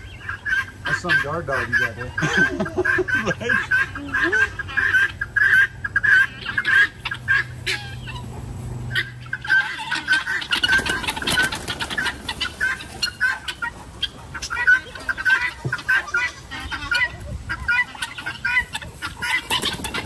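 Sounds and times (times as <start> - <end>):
guinea fowl calling harshly: 0.0 - 8.3, 8.9 - 20.0.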